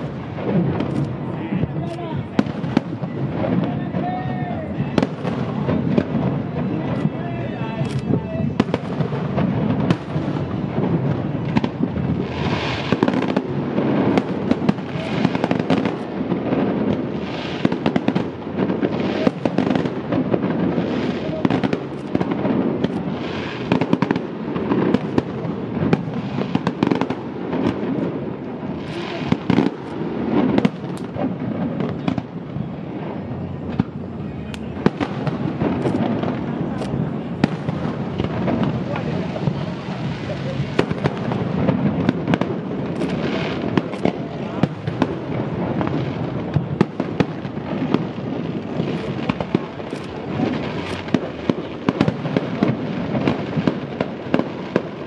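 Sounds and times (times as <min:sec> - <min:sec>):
firework shells bursting: 0:07.8 - 0:32.6, 0:33.3 - 0:54.9.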